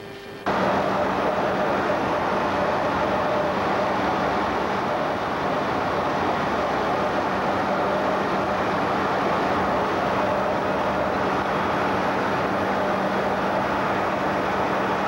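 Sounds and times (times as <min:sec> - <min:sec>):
constant low hum: 0:00.0 - 0:15.0
aircraft cabin rush: 0:00.5 - 0:15.0.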